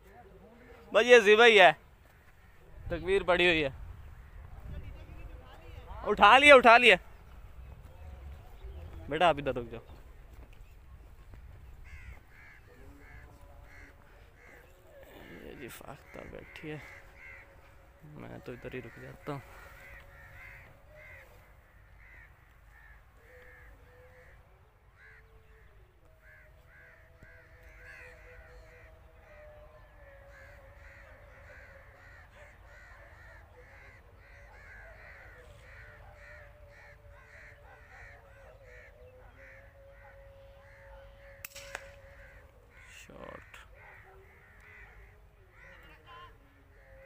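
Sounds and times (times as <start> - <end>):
crows cawing: 0.2 - 3.2, 11.3 - 47.0.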